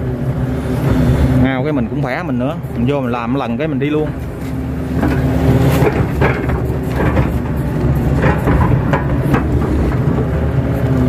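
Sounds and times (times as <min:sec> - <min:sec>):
diesel engine under load: 0:00.0 - 0:11.0
excavator bucket clanks and knocks: 0:01.8 - 0:11.0.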